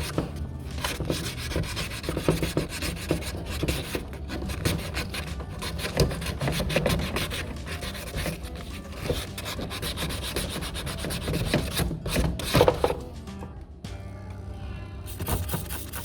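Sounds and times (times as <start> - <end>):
hand sanding scraping strokes: 0.0 - 13.0, 15.1 - 16.0.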